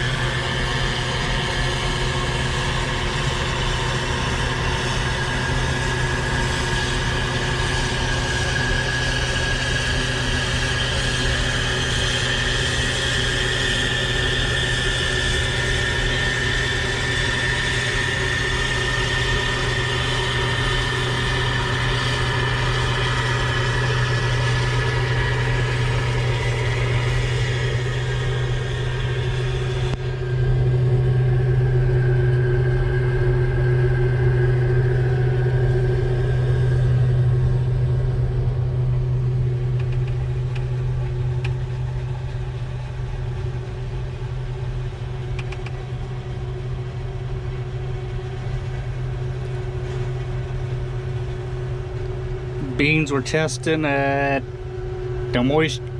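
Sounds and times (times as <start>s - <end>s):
diesel engine droning: 0.0s - 55.9s
high engine whine: 0.0s - 55.9s.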